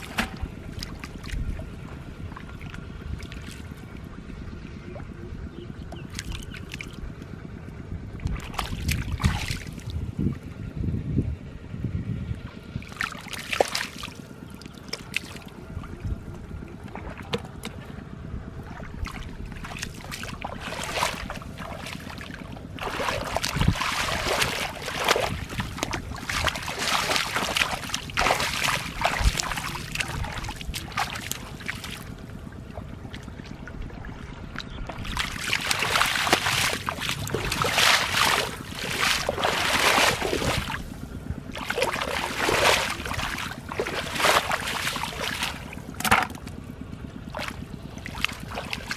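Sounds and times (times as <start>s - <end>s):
muddy water splashing and sloshing: 0.0s - 48.9s.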